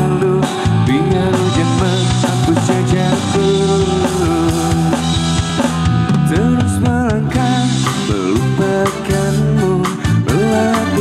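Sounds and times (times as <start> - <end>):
drum kit: 0.0 - 11.0
man singing long notes: 0.0 - 11.0.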